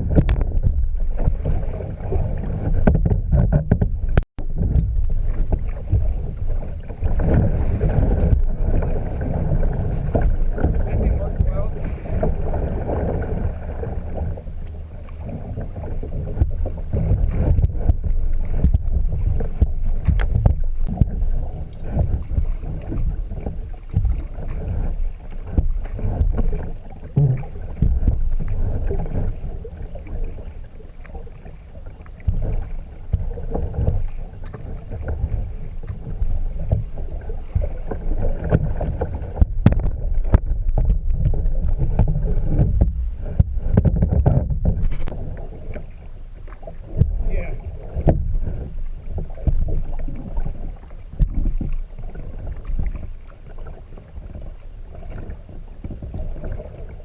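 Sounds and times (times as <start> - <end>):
knocks and splashes: 0.0 - 57.0
water: 0.0 - 57.0
wind: 0.0 - 57.0.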